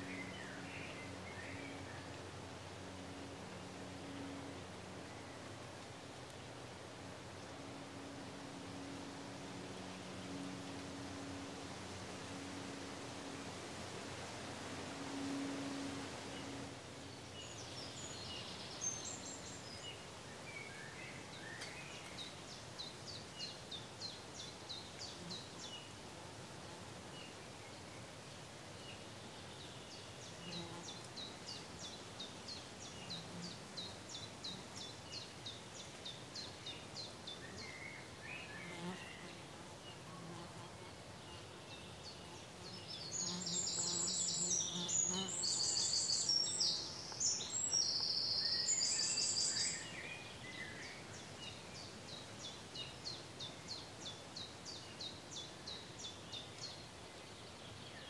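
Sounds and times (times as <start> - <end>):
outdoor hiss: 0.0 - 58.0.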